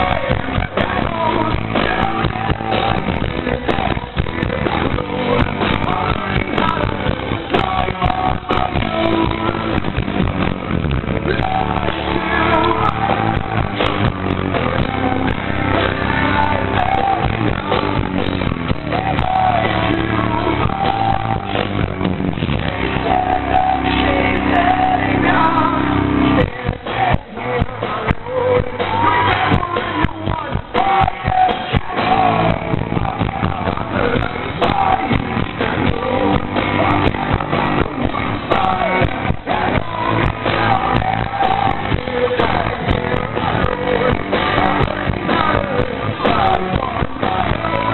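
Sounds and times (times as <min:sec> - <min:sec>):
bass guitar: 0:00.0 - 0:47.9
distorted electric guitars: 0:00.0 - 0:47.9
drums: 0:00.0 - 0:47.9
man singing lead vocal: 0:00.0 - 0:47.9.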